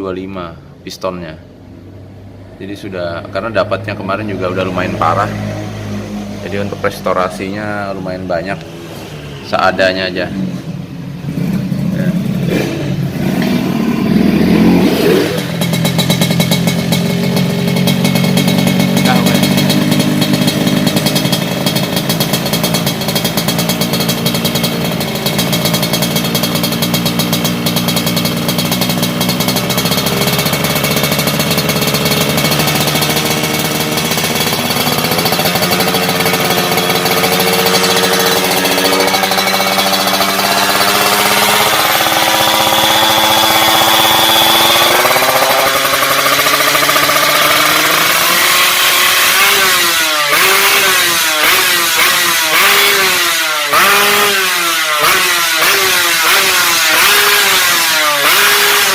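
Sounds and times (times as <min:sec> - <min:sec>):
two-stroke motorcycle engine buzzing: 0:10.6 - 0:58.9.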